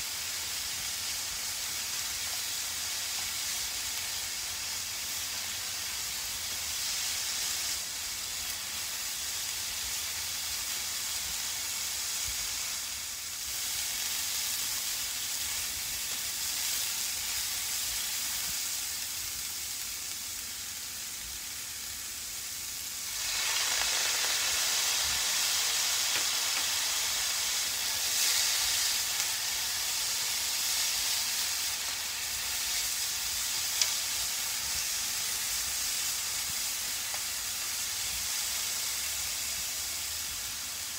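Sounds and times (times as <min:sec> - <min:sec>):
vegetables sizzling in frying pan: 0:00.0 - 0:40.9.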